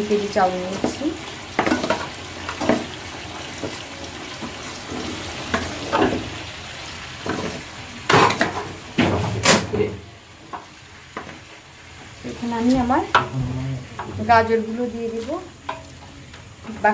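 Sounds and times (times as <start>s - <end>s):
rice sizzling in oil: 0.0s - 16.9s.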